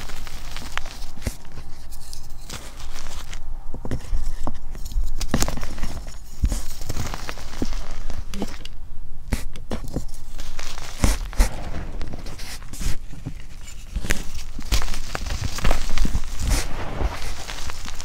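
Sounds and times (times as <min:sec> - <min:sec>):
hands crushing chalk: 0:00.0 - 0:08.7, 0:09.3 - 0:18.0
soft powdery hiss: 0:00.0 - 0:18.0.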